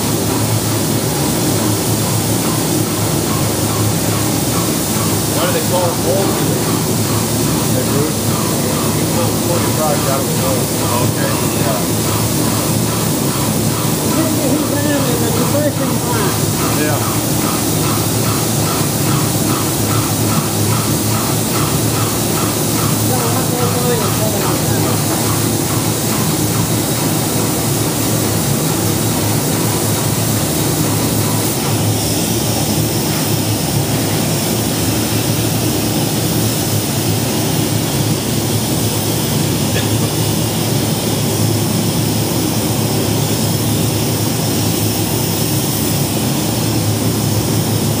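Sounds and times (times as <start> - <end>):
spray equipment roaring with air hiss: 0.0 - 48.0.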